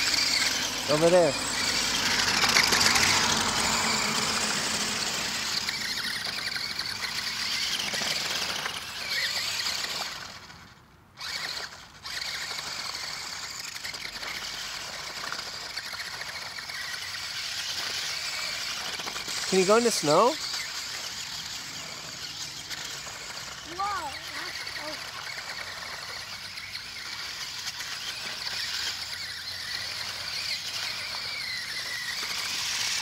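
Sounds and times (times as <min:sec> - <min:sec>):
toy truck motor whining: 0:00.0 - 0:33.0.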